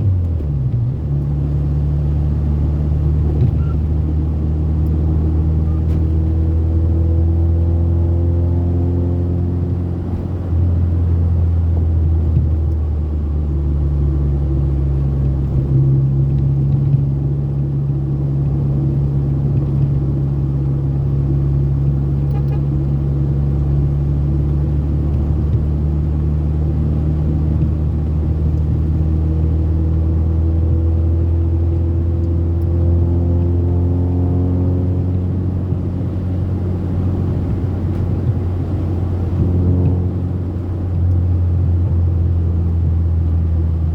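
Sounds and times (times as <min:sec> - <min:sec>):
car engine drone: 0:00.0 - 0:43.9
road rumble: 0:00.0 - 0:43.9.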